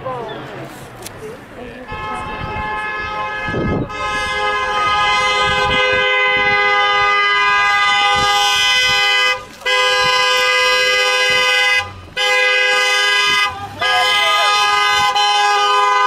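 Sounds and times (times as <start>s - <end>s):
two-tone electric horn blaring: 1.8s - 16.0s.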